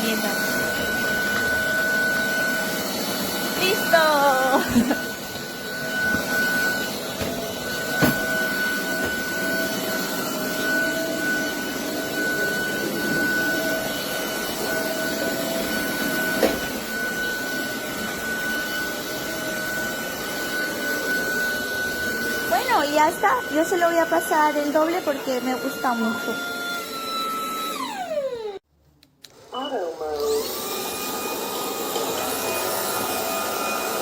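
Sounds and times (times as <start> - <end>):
floor vacuum running: 0.0 - 28.6, 29.2 - 34.0.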